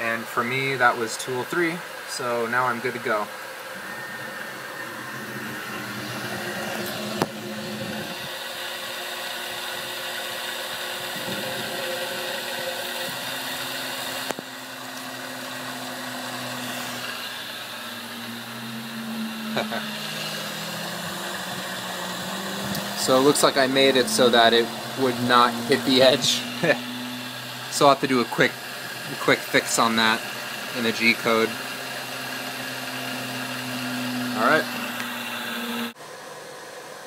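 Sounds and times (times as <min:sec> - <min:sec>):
milling machine motor whine: 0:00.6 - 0:36.7
metal cutting noise: 0:02.3 - 0:36.0.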